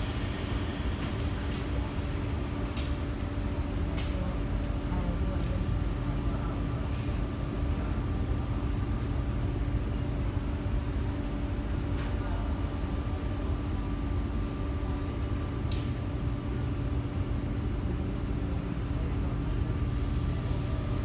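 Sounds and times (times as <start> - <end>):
steady high whine: 0.0 - 21.0.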